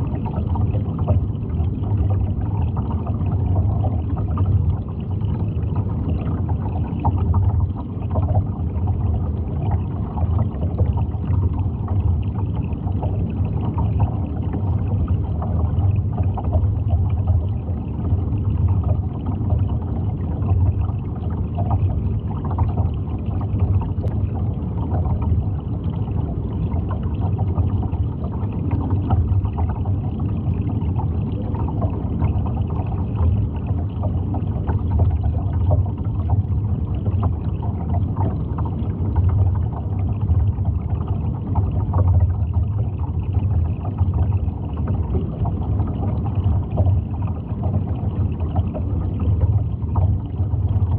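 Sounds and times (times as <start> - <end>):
low underwater noise: 0.0 - 50.9.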